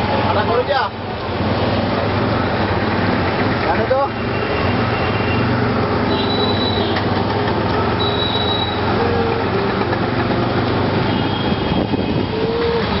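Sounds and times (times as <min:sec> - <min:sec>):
street traffic and engine hum: 0:00.0 - 0:13.0.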